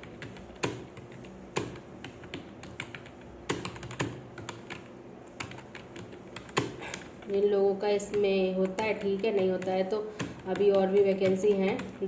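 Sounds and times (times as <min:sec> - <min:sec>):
computer keyboard typing: 0:00.0 - 0:12.0.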